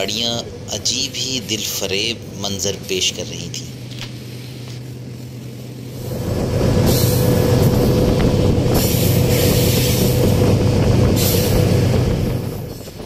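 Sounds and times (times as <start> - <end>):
diesel locomotive engine drone: 0.0 - 13.0
train wheels rumbling on rails: 0.0 - 13.0.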